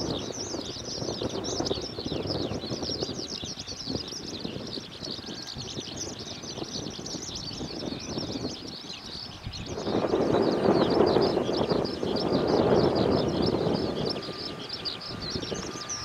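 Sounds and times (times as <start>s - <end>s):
jet airliner engines: 0.0s - 16.0s
small birds chirping: 0.0s - 16.0s.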